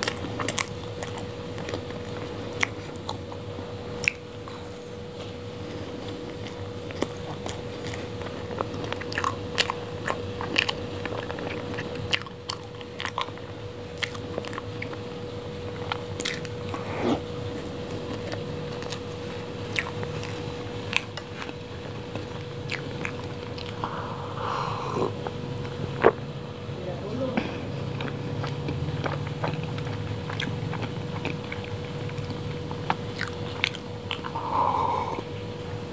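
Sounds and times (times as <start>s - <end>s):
close chewing of soft cake: 0.0s - 26.3s, 27.2s - 35.9s.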